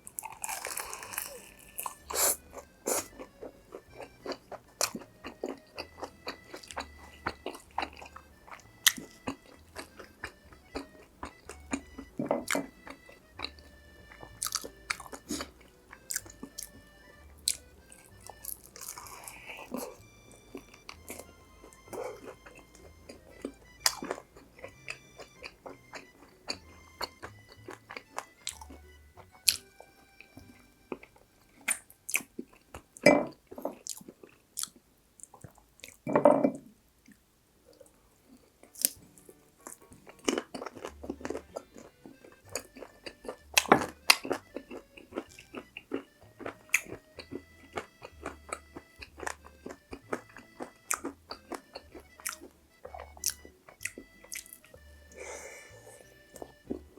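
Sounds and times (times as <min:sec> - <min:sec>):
crunchy chewing of fried food: 0:00.0 - 0:36.1, 0:37.0 - 0:56.9.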